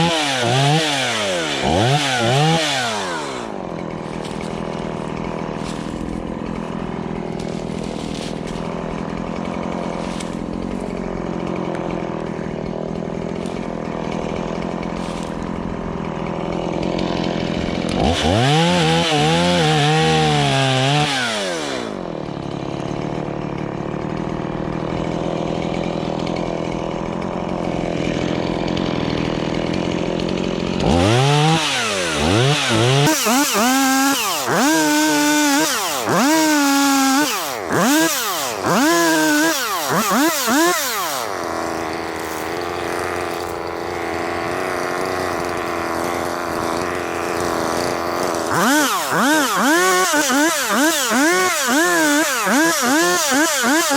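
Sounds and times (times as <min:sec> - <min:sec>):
chainsaw idling and revving: 0:00.0 - 0:53.9.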